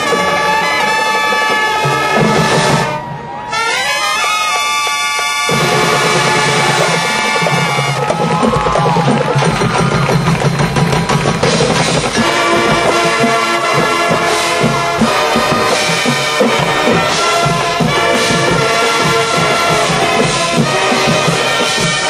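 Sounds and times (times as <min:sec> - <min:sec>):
steady drum beat: 0:00.0 - 0:03.0, 0:05.5 - 0:22.0
brass section holding chords: 0:00.0 - 0:08.0, 0:12.2 - 0:22.0
marching band playing: 0:00.0 - 0:22.0.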